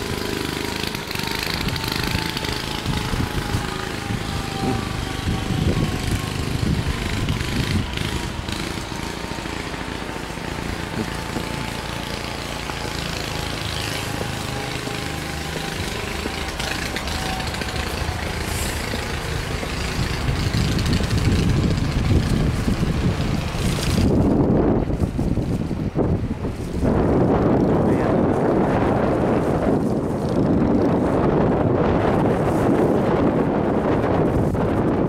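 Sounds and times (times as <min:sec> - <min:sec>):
engine running: 0:00.0 - 0:35.0
wind buffeting microphone: 0:00.0 - 0:35.0.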